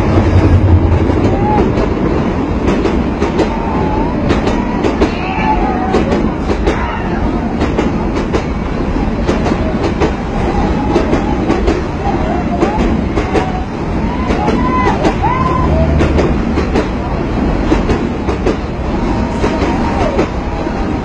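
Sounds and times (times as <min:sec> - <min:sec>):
train rumbling along track: 0:00.0 - 0:21.0
train wheels clicking over rails: 0:00.0 - 0:21.0.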